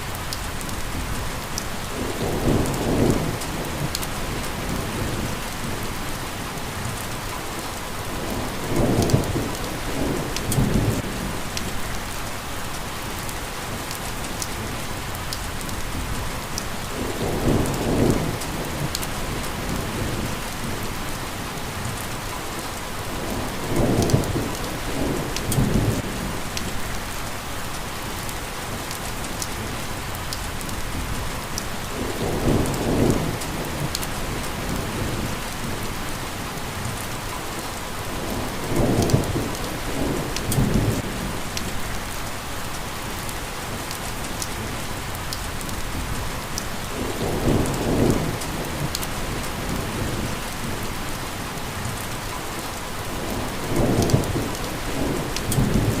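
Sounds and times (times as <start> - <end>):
steady rain with drop ticks: 0.0 - 56.0.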